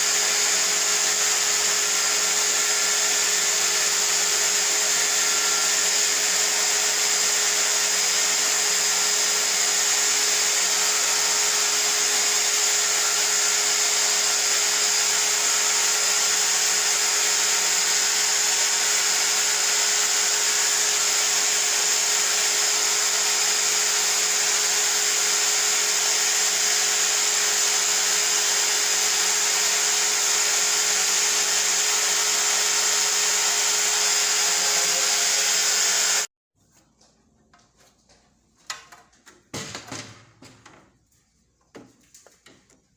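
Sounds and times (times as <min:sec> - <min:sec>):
small electric motor whining: 0:00.0 - 0:36.3.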